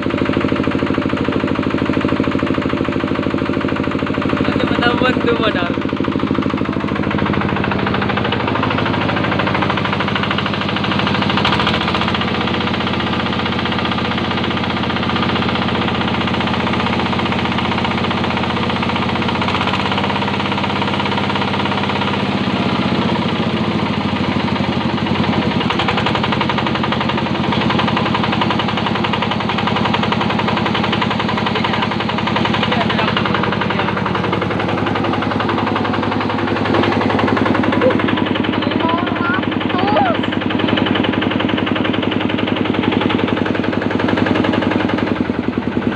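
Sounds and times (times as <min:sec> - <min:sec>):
diesel engine knocking: 0:00.0 - 0:45.9.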